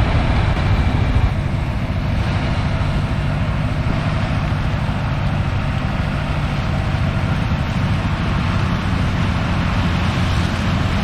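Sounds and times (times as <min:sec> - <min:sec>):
combine harvester engine drone: 0:00.0 - 0:11.0
threshing machinery rush: 0:00.0 - 0:11.0.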